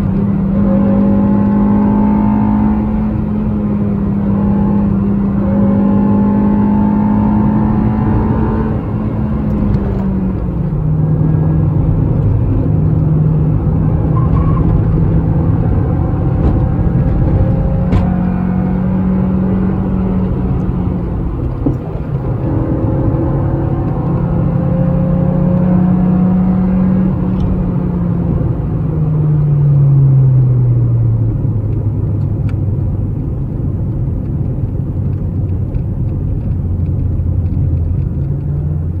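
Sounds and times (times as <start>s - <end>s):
car engine revving: 0.0s - 39.0s
tyre and road noise: 0.0s - 39.0s.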